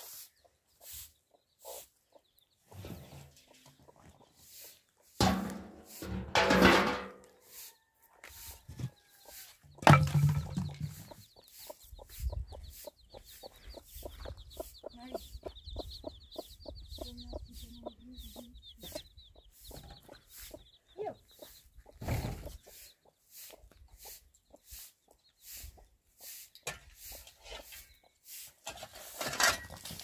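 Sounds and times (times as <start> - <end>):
chicks peeping: 0.0 - 5.2, 7.5 - 9.8, 10.6 - 28.5.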